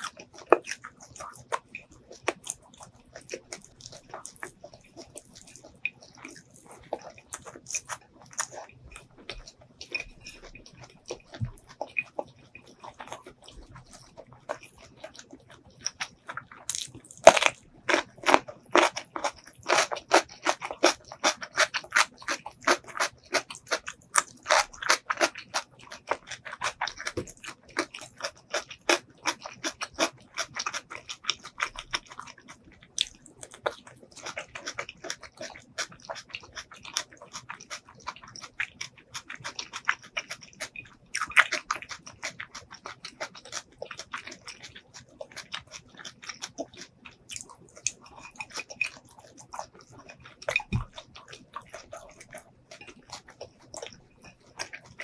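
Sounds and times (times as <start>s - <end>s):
mouth chewing food: 0.0s - 55.0s.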